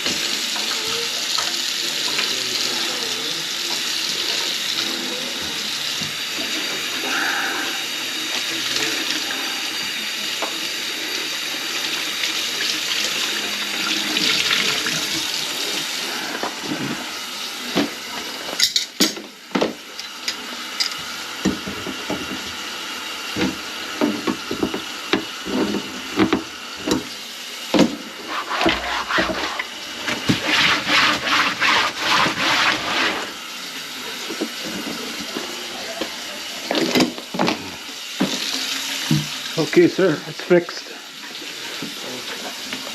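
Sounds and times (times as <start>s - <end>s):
water running into a sink: 0.0s - 42.9s.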